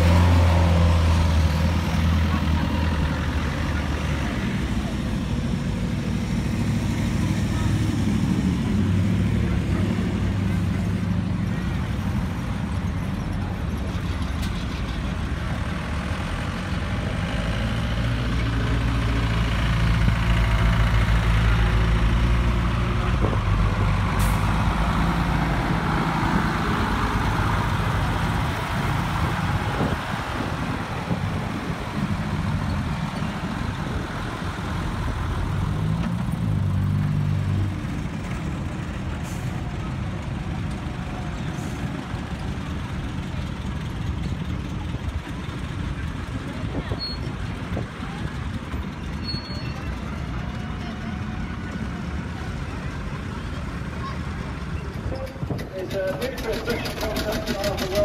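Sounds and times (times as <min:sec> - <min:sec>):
diesel lorry passing: 0:00.0 - 0:58.0
vehicle engines driving past: 0:00.0 - 0:58.0.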